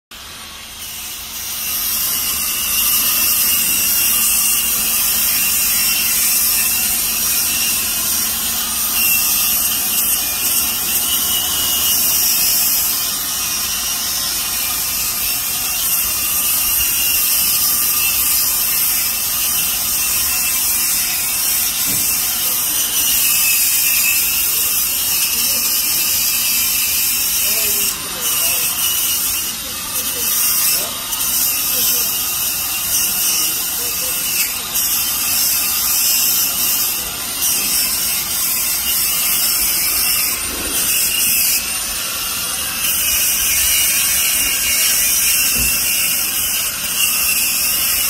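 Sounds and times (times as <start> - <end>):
angle grinder grinding metal: 0.2 - 48.0.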